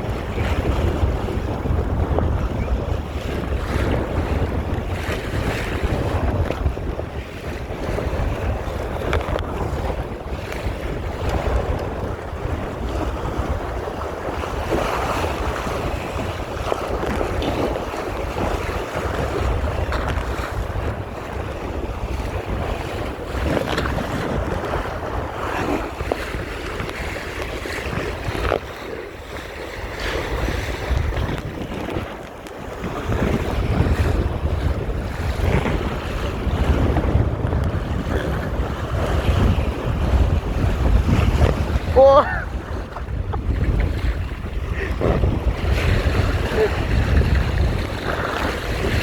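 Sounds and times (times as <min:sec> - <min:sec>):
water slapping against hull: 0:00.0 - 0:49.0
wind buffeting microphone: 0:00.0 - 0:49.0
water splashes: 0:02.4 - 0:49.0.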